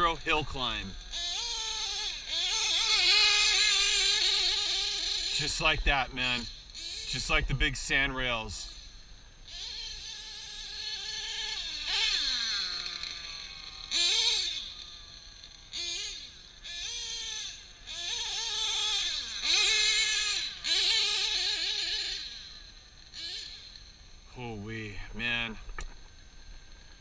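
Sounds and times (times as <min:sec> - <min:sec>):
nitro engine revving: 0:00.0 - 0:23.8.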